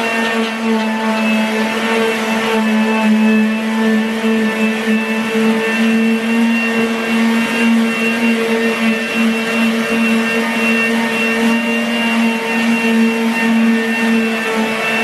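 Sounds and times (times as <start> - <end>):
electric sander motor whine: 0.0 - 15.0.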